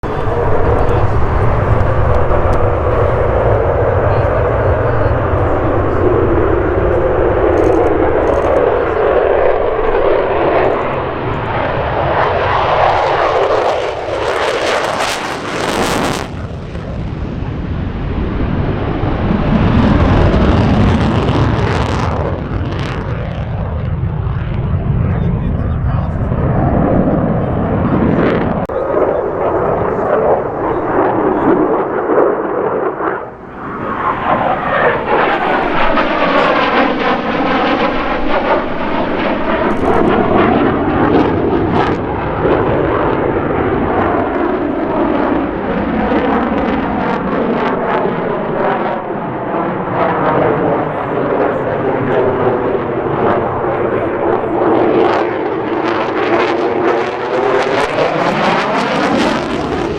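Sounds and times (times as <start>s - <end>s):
fighter jet engine roar: 0.0s - 59.9s.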